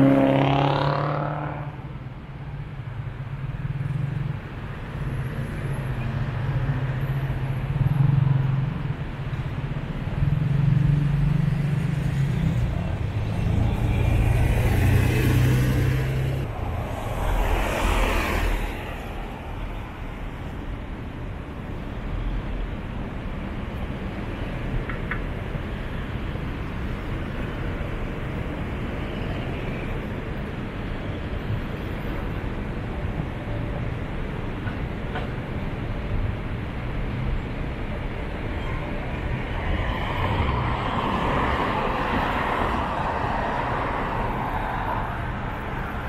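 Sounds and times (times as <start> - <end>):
traffic engines humming: 0.0 - 46.0
vehicles passing close by: 0.0 - 46.0.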